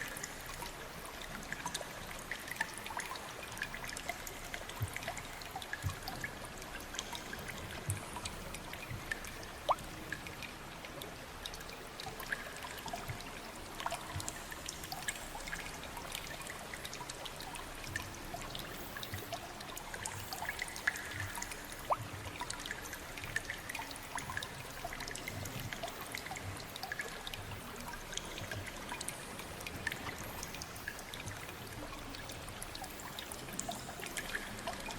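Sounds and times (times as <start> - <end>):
water drips and plinks: 0.0 - 34.9
water trickling: 0.0 - 34.9.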